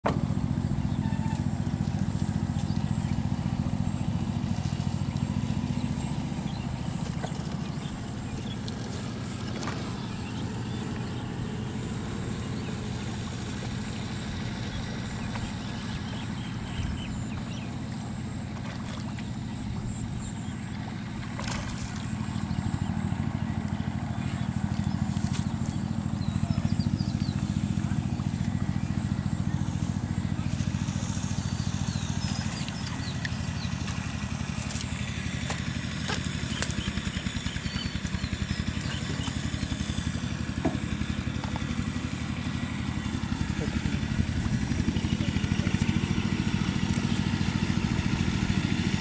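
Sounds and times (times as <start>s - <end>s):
motor droning: 0.0s - 49.0s.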